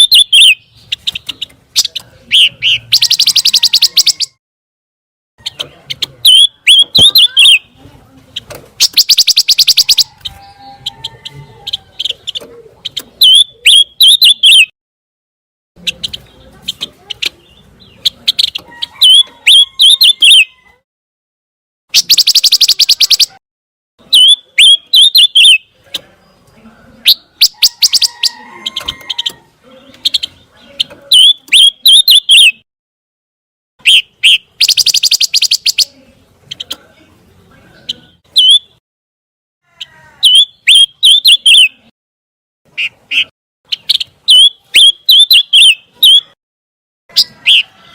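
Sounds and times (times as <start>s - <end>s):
bird chirps and trills: 0.0s - 4.4s, 5.4s - 14.7s, 15.8s - 20.7s, 21.9s - 23.4s, 24.0s - 32.6s, 33.8s - 36.9s, 37.6s - 38.8s, 39.8s - 41.9s, 42.7s - 46.4s.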